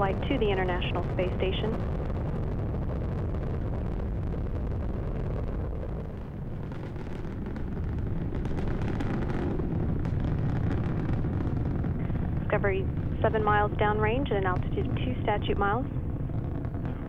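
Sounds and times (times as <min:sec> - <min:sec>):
deep rocket rumble: 0:00.0 - 0:17.0
rocket crackling: 0:00.0 - 0:17.0.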